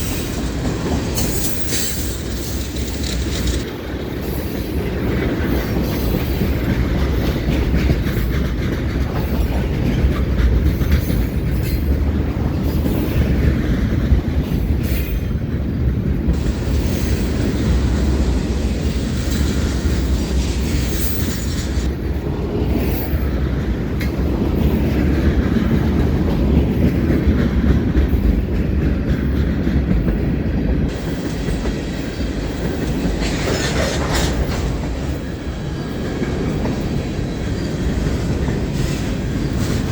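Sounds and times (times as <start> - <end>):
freight train rumble: 0.0 - 39.9
wheels clacking on rails: 0.0 - 39.9.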